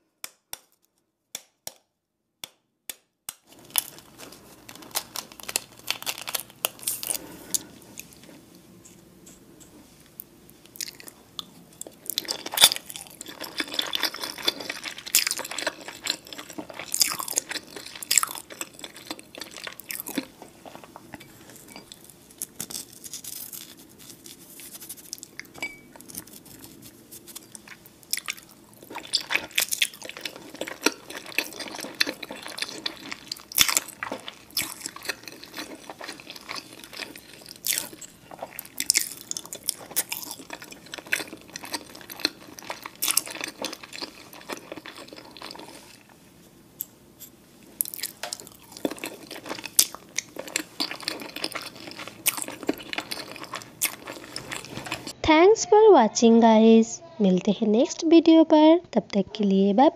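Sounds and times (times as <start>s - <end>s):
biting and chewing: 3.5s - 9.7s, 10.7s - 46.1s, 47.8s - 55.2s.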